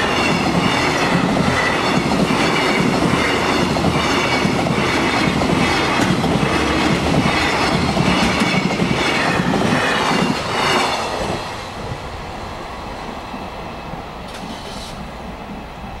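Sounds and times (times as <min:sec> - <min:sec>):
freight train rattling past: 0:00.0 - 0:16.0.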